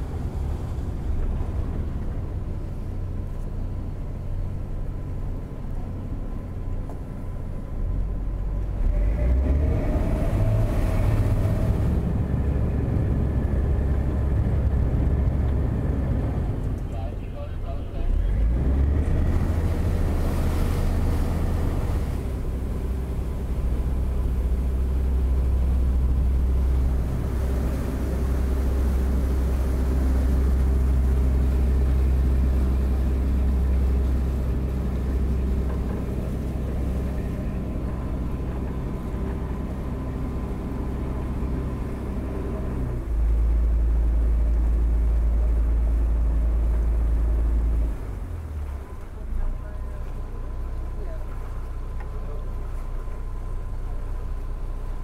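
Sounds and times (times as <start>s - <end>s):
ship engine droning: 0.0s - 55.0s.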